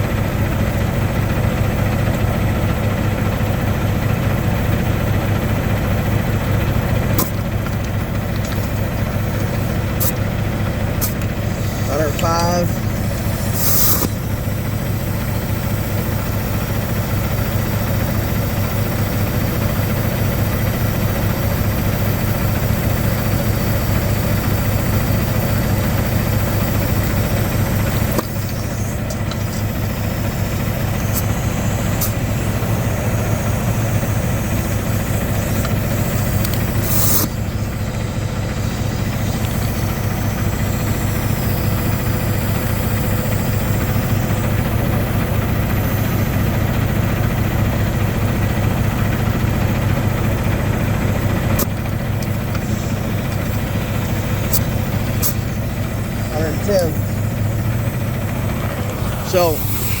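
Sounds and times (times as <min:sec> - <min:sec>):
diesel truck engine idling: 0:00.0 - 1:00.0
air hissing into tire: 0:06.3 - 1:00.0.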